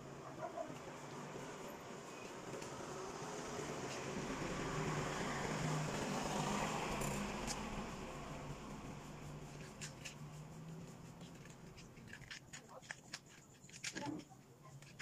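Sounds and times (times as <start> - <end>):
passing vehicle engine hum: 0.0 - 12.1
road noise hiss: 0.0 - 12.5.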